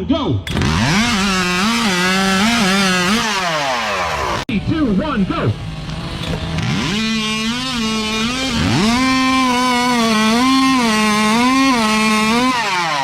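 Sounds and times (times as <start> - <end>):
chainsaw cutting log: 0.5 - 13.0.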